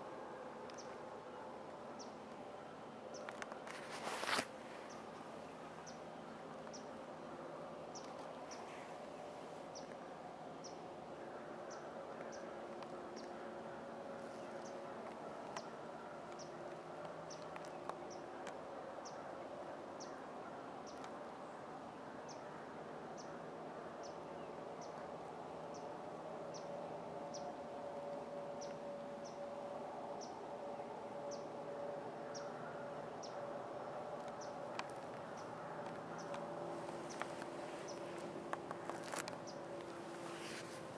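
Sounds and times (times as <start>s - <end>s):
faint outdoor hum: 0.0s - 40.9s.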